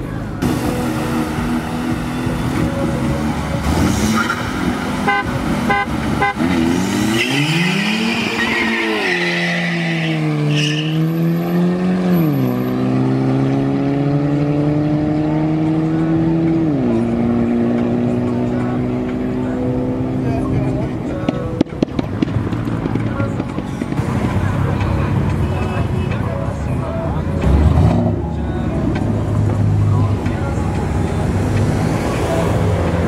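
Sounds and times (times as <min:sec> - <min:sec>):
car engines accelerating hard: 0:00.0 - 0:33.0.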